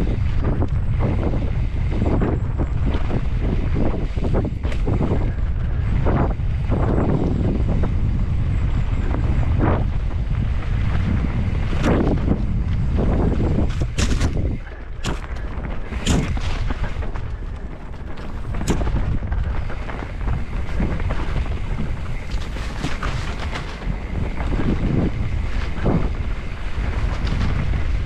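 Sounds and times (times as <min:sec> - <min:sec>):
bike knocking and clattering: 0:00.0 - 0:28.0
wind buffeting microphone: 0:00.0 - 0:28.0.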